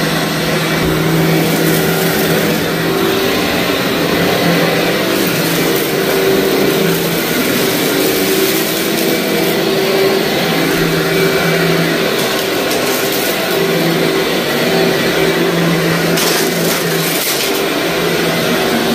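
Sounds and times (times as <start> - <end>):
vacuum cleaner running: 0.0 - 18.9
debris crackling in vacuum: 0.6 - 18.9.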